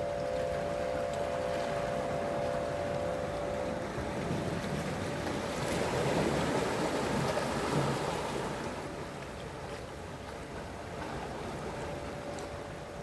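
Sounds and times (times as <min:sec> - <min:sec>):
faint steady hum: 0:00.0 - 0:13.0
sea waves washing in: 0:00.0 - 0:13.0.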